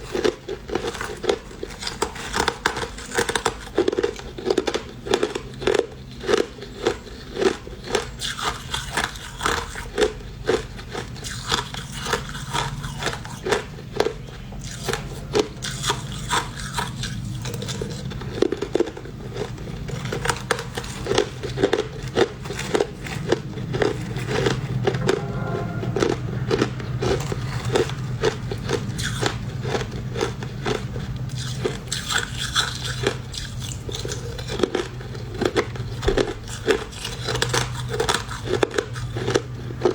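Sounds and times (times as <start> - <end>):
crushed ice being chewed: 0.0 - 39.9
steady low hum: 0.0 - 39.9.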